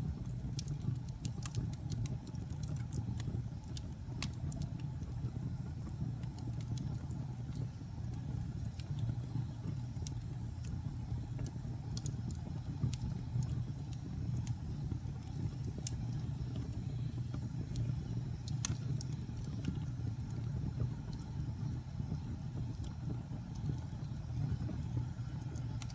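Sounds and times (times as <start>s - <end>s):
fire crackling and popping: 0.0s - 25.9s
fire rumbling: 0.0s - 25.9s.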